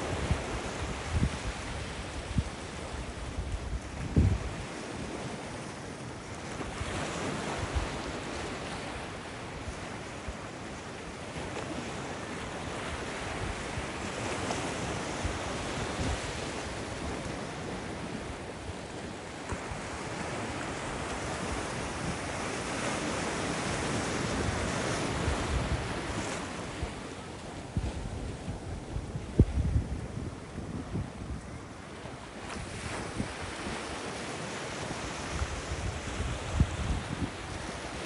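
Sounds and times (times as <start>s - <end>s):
ocean surf breaking: 0.0s - 38.0s
wind rumbling on microphone: 0.0s - 38.0s.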